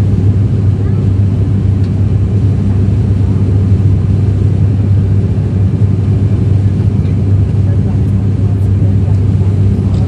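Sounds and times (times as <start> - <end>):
airliner engine drone in cabin: 0.0 - 10.0.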